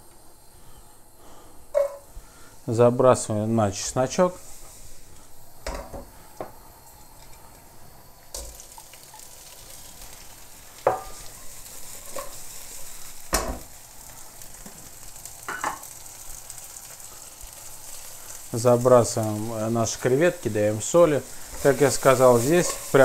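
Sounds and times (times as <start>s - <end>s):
shrimp sizzling in hot oil: 3.8s - 23.0s.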